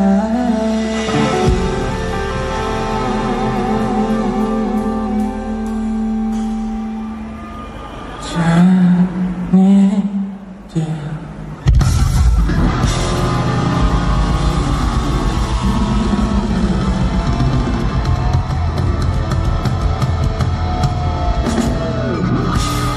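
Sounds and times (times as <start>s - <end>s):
drum kit: 0.0s - 7.3s, 11.6s - 22.9s
electric guitar: 0.0s - 8.3s, 11.6s - 22.9s.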